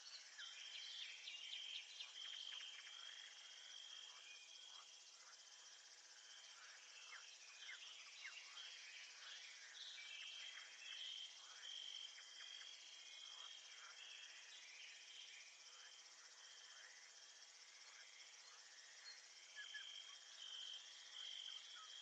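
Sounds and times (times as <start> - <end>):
crickets and insects chirping: 0.0 - 22.0.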